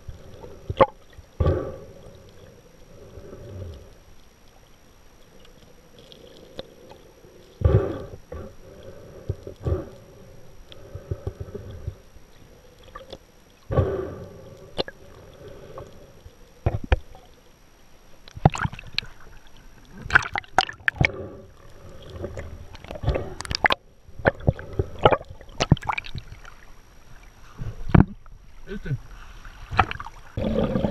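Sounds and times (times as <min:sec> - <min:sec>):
water sloshing and gurgling: 0:00.0 - 0:30.9.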